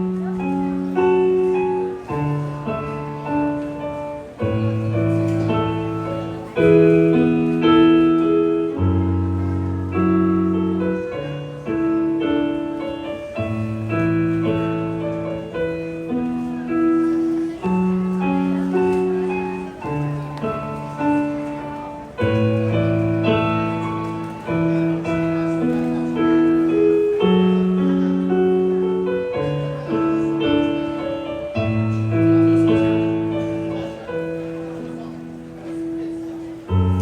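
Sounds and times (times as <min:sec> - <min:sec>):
solo piano playing slow chords: 0:00.0 - 0:37.0.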